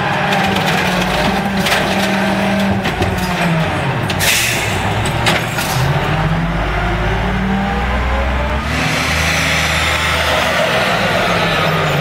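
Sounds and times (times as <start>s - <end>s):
garbage truck diesel engine: 0.0s - 12.0s.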